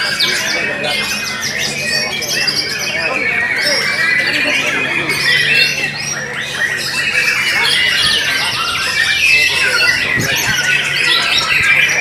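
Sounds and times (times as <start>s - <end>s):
many birds singing: 0.0s - 12.0s.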